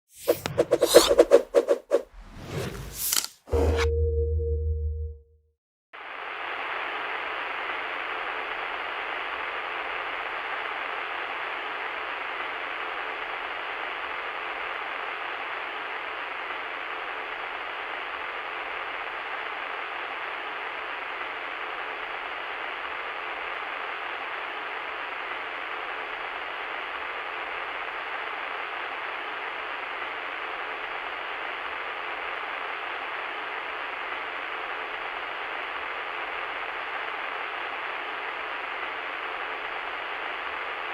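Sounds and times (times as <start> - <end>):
radio static hiss: 6.0 - 40.9.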